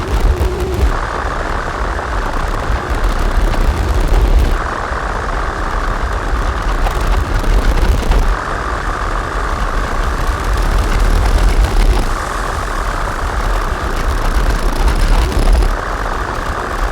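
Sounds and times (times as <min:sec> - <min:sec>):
distorted electronic drone: 0:00.0 - 0:16.9.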